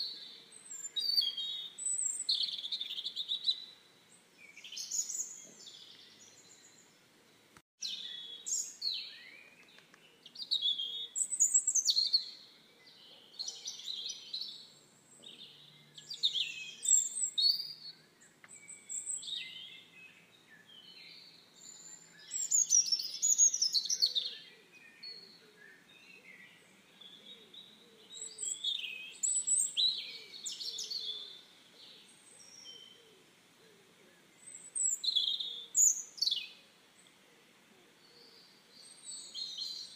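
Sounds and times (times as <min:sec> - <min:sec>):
songbirds twittering: 0:00.0 - 0:39.9.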